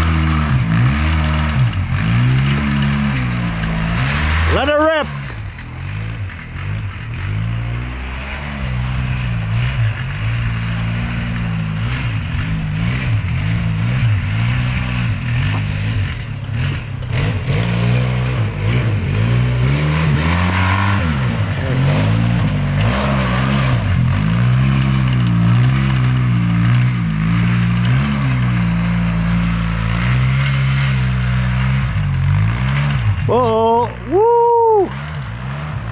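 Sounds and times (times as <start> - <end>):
vehicle engine revving: 0.0 - 35.9.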